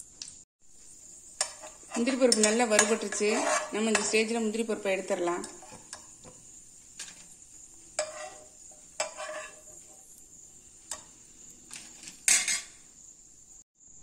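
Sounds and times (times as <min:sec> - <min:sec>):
metal spoon scraping frying pan: 0:01.0 - 0:12.8.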